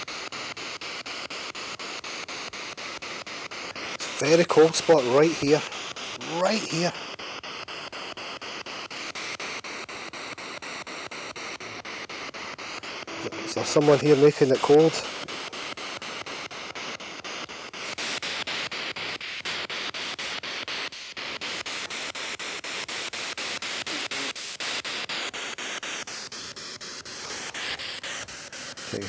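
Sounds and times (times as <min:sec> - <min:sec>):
radio static sweeping channels: 0:00.0 - 0:29.0.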